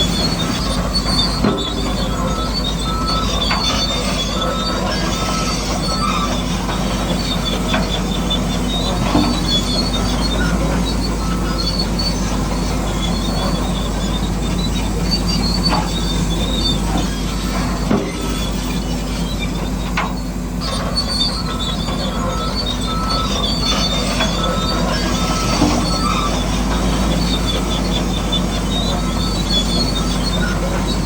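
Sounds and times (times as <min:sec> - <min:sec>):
high metallic squeals: 0:00.0 - 0:31.0
model bulldozer running: 0:00.0 - 0:31.0.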